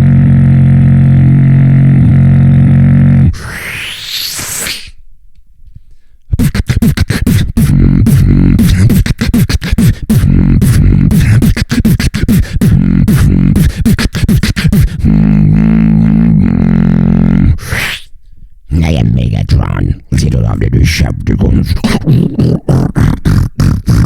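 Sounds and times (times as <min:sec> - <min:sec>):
beatboxing: 0:00.0 - 0:00.5, 0:01.1 - 0:05.0, 0:06.3 - 0:18.1, 0:18.7 - 0:24.0.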